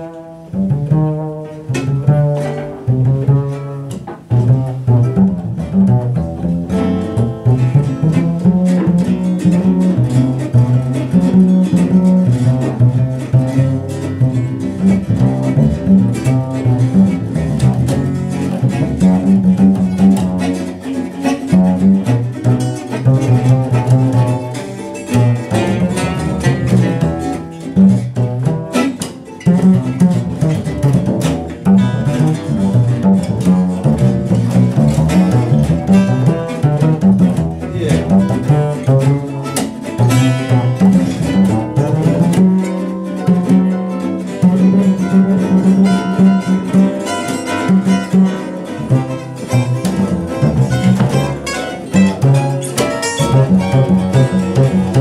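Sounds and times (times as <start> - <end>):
acoustic guitars strumming: 0.0 - 55.0
bowed double bass melody: 0.0 - 55.0.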